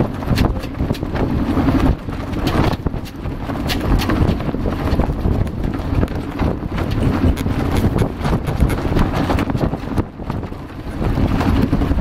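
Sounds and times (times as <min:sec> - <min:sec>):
clicks and knocks from boat: 0:00.0 - 0:12.0
wind buffeting microphone: 0:00.0 - 0:12.0.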